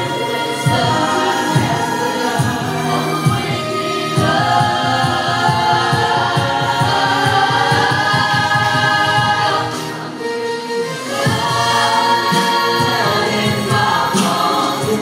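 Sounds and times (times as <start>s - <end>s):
mixed choir singing chords: 0.0s - 15.0s.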